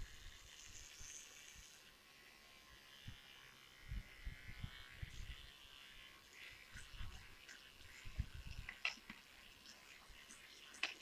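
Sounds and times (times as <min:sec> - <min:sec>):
electric toothbrush buzzing: 0:00.0 - 0:11.0.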